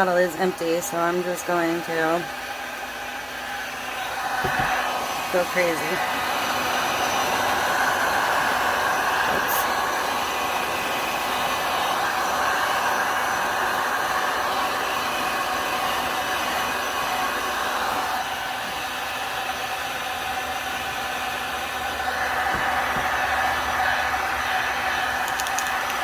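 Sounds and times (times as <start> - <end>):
heat tool blowing air: 0.0 - 26.0.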